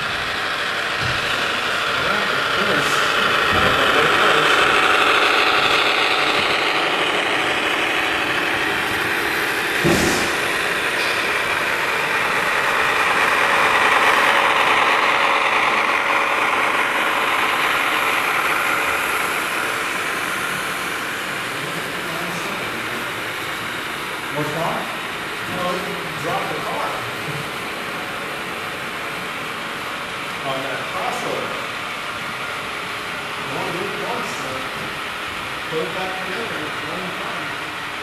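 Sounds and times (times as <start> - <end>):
model locomotives humming: 0.0 - 38.0.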